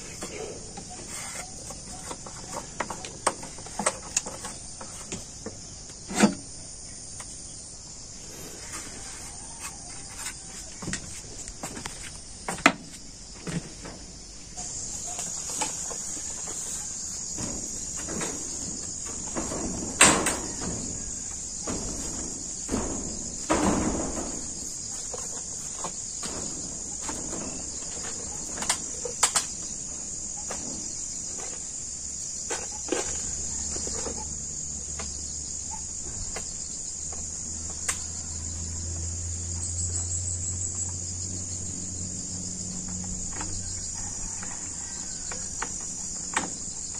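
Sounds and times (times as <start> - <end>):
bamboo ladder knocks and creaks: 0.0 - 7.6, 8.4 - 38.5, 42.6 - 46.9
insect chorus: 0.0 - 46.9.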